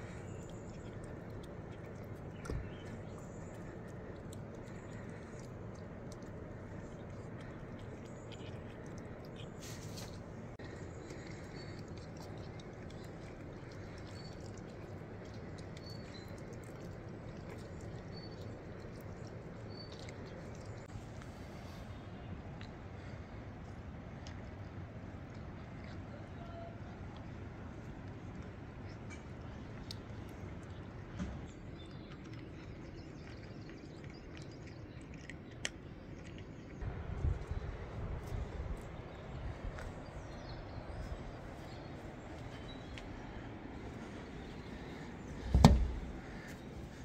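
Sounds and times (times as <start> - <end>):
cats chewing wet food: 0.0 - 47.0.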